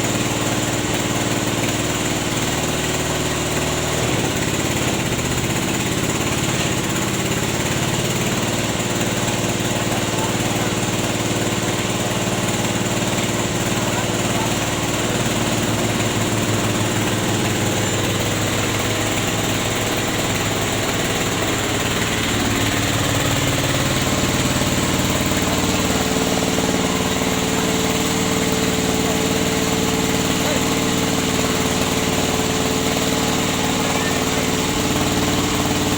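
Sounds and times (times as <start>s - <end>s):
small engine running: 0.0s - 35.9s.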